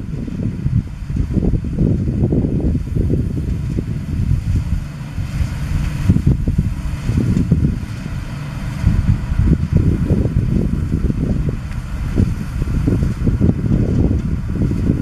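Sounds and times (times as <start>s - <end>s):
combine harvester running: 0.0s - 15.0s
wind buffeting microphone: 0.0s - 15.0s.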